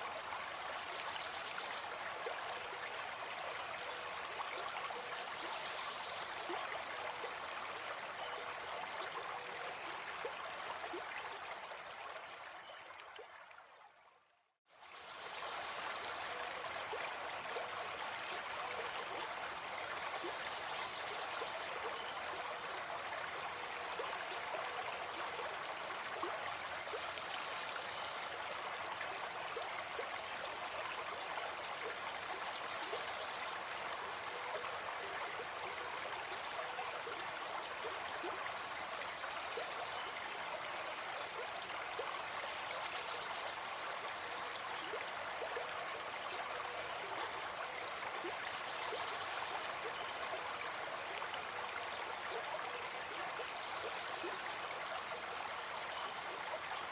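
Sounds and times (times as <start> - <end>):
forest stream flowing: 0.0 - 56.9.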